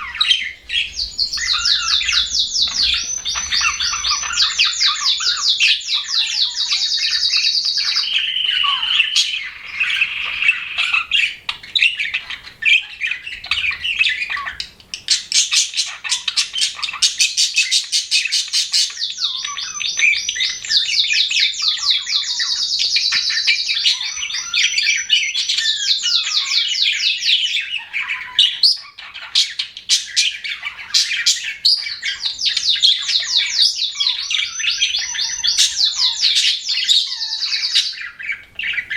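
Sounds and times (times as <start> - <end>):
budgerigars chirping: 0.0 - 38.9
squawky bird chatter: 0.0 - 38.9.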